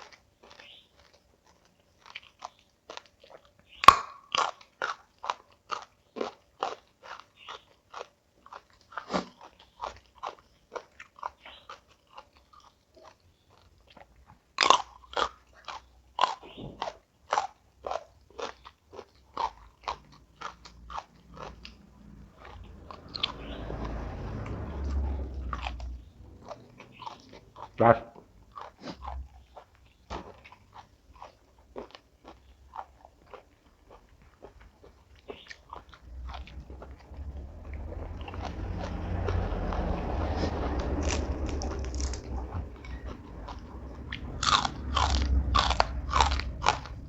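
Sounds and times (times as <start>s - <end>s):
crunchy food being chewed: 0.0s - 47.0s.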